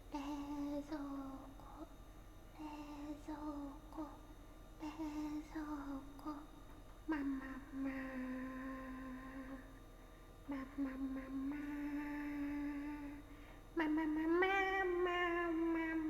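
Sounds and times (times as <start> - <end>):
woman humming: 0.0 - 1.9, 2.6 - 4.2, 4.8 - 6.5, 7.1 - 9.8, 10.5 - 16.0.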